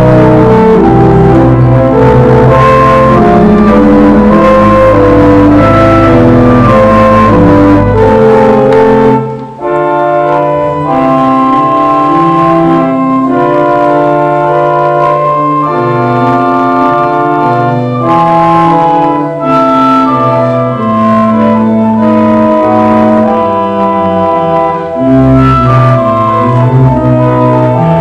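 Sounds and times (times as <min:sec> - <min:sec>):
church organ playing chords: 0:00.0 - 0:28.0.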